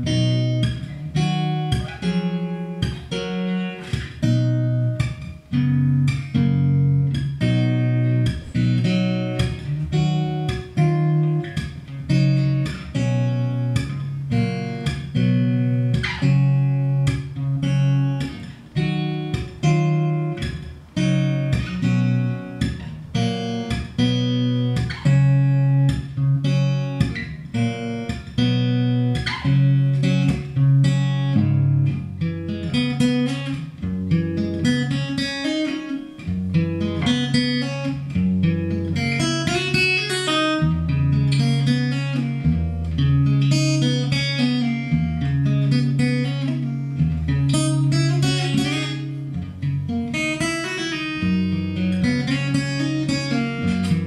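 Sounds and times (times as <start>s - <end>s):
fingerstyle acoustic guitar: 0.0s - 54.0s.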